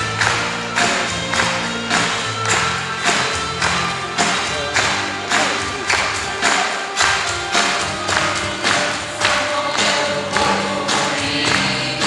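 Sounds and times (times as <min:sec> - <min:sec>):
acoustic guitars playing chords: 0:00.0 - 0:12.0.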